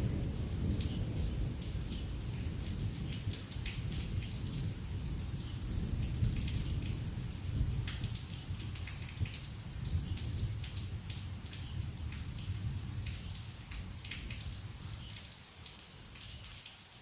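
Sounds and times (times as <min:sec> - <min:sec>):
heavy rain: 0:00.0 - 0:17.0
raindrops hitting close by: 0:00.0 - 0:17.0.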